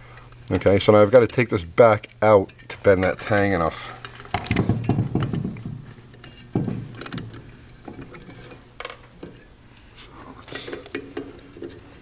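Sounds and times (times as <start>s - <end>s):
faint steady hum: 0.0s - 12.0s
metal parts clicking and scraping: 0.5s - 9.5s, 10.4s - 12.0s.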